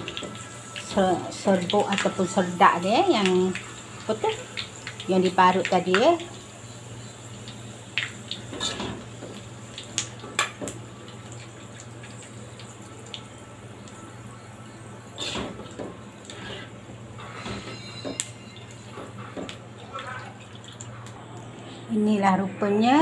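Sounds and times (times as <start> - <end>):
oil bubbling and sizzling: 0.0 - 21.6.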